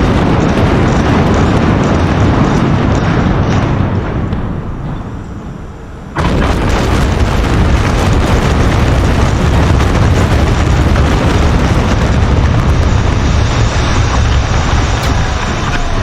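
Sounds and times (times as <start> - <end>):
building collapsing rumble: 0.0 - 16.0.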